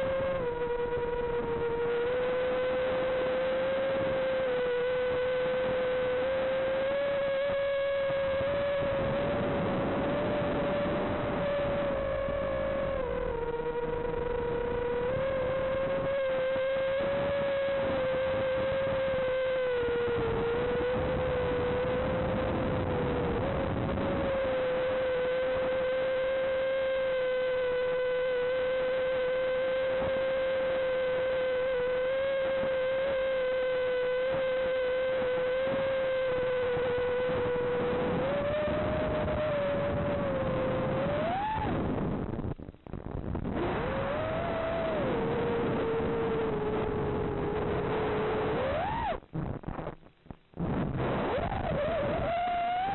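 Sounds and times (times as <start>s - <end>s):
drone motors whining: 0.0s - 49.9s, 50.6s - 52.9s
wind noise: 0.0s - 52.9s.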